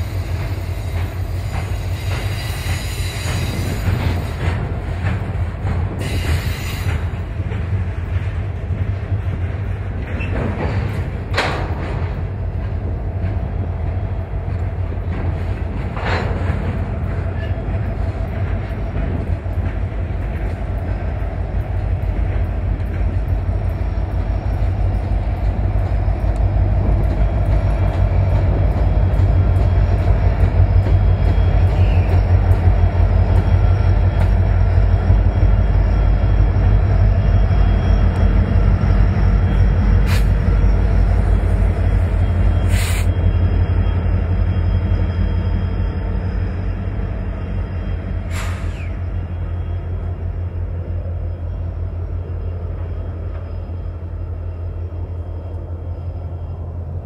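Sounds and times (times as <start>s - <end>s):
diesel locomotive engines rumbling: 0.0s - 57.0s.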